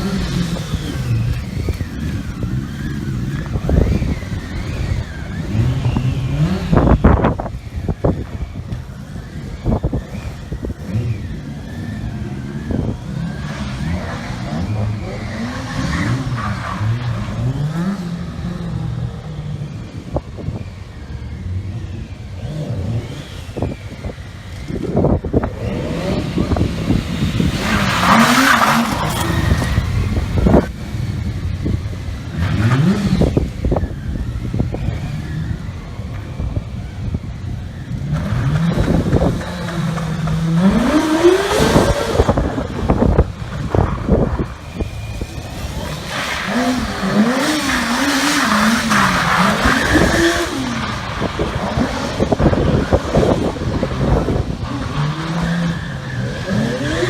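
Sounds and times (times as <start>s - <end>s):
motorcycle engine throttle blips: 0.0s - 57.0s.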